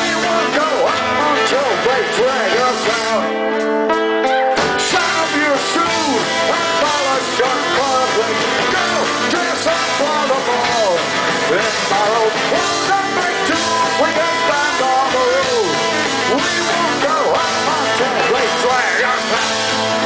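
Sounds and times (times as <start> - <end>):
man singing: 0.0 - 3.6, 4.5 - 20.0
live rock band playing: 0.0 - 20.0.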